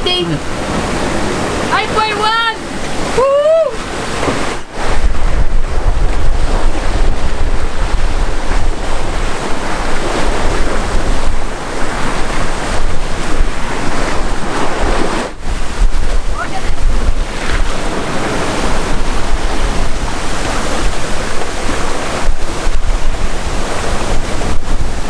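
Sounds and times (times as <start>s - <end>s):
water rushing past hull: 0.0s - 25.0s
wind buffeting microphone: 0.0s - 25.0s.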